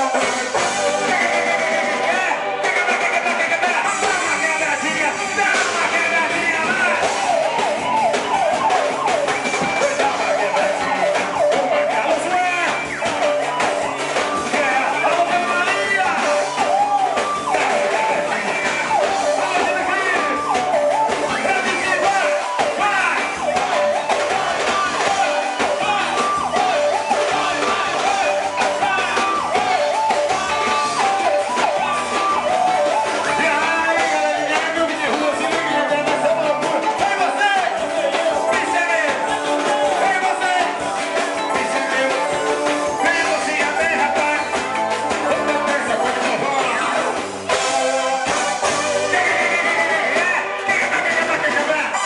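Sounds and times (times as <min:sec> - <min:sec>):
live band with singer: 0:00.0 - 0:52.0.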